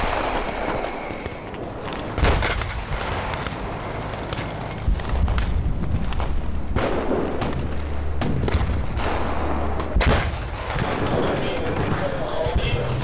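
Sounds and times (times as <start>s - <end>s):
artillery shots and booms: 0.0s - 13.0s
low steady rumble: 1.5s - 13.0s.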